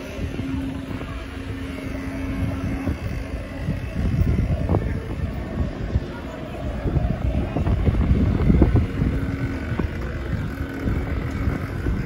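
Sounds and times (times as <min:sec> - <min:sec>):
fairground ride rumble: 0:00.0 - 0:12.0
wind buffeting microphone: 0:00.0 - 0:12.0.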